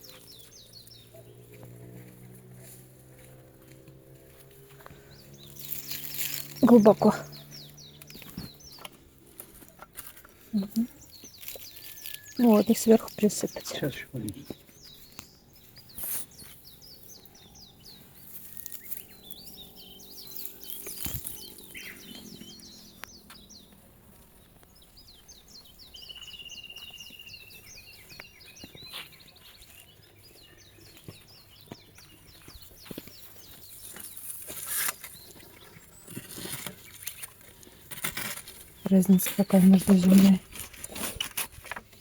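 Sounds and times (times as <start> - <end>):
songbirds singing and chirping: 0.0 - 42.0.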